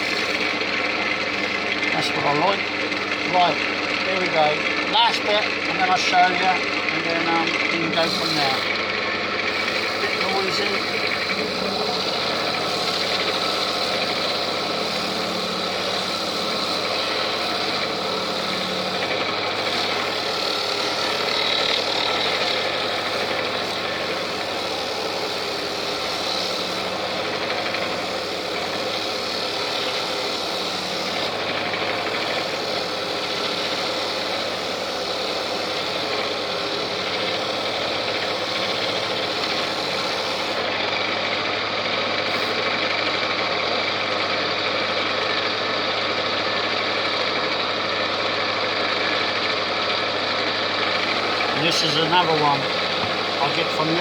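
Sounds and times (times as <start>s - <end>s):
lathe motor hum: 0.0s - 54.0s
noisy hiss of woodturning: 0.0s - 54.0s.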